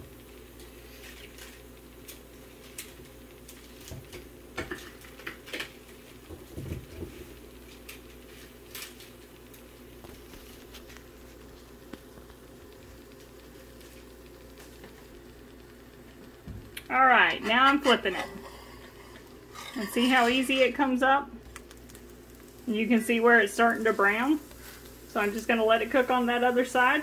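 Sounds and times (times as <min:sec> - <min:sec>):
steady low hum: 0:00.0 - 0:27.0
tortilla sizzling in oil: 0:00.0 - 0:27.0.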